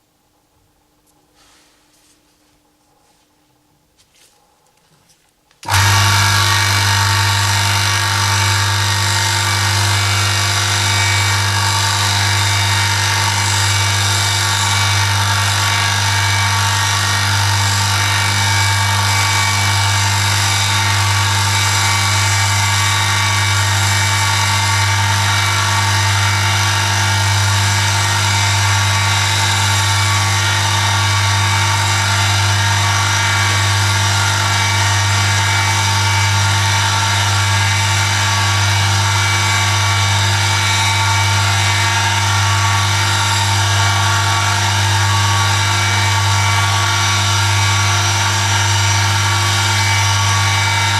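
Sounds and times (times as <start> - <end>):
test rig motor humming and whining: 5.6 - 50.9.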